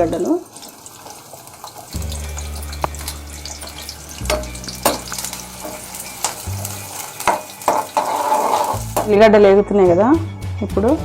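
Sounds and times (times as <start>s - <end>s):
onions sizzling in hot oil: 0.0s - 9.5s.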